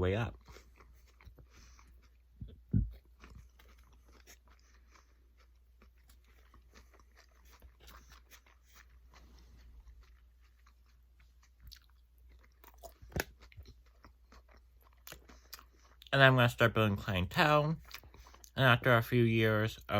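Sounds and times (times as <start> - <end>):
chewing crunchy food: 0.0 - 19.1.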